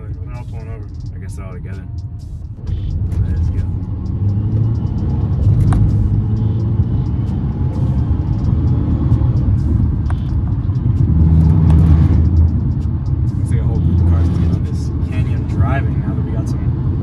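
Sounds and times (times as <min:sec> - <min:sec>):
car engine low rumble: 0:00.0 - 0:17.0
tyres on road: 0:00.0 - 0:17.0.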